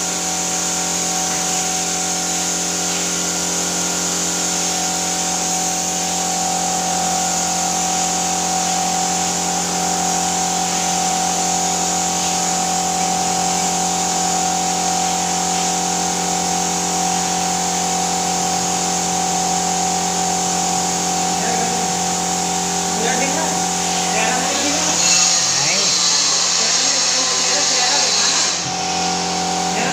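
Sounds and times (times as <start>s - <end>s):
spray gun motor hum: 0.0s - 29.9s
spraying air hiss: 0.0s - 29.9s.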